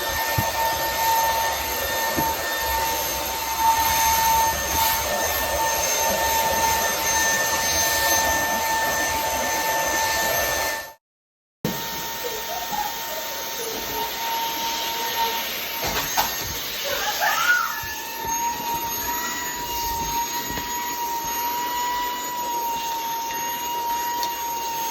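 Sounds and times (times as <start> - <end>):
stick vacuum motor whining: 0.0 - 10.9, 11.7 - 24.9.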